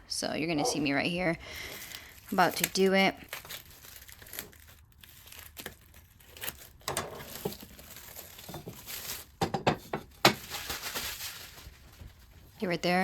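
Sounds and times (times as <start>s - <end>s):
plastic crinkling: 1.0s - 13.0s.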